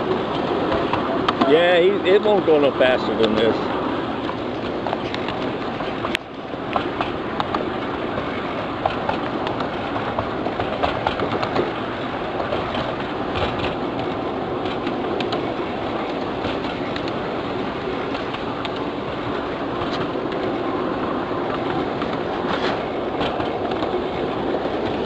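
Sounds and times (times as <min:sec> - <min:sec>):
miniature train running: 0:00.0 - 0:25.0
wheels clicking over rails: 0:00.0 - 0:25.0.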